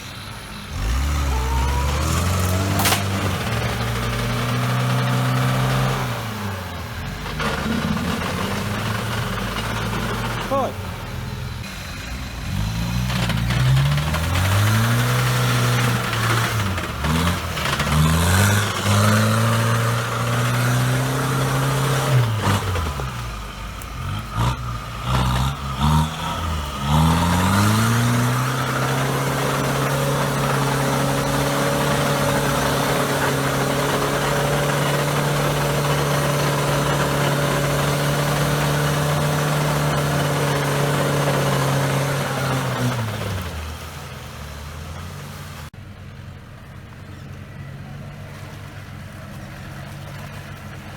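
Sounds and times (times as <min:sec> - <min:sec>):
off-road vehicle engine revving: 0:00.0 - 0:45.8.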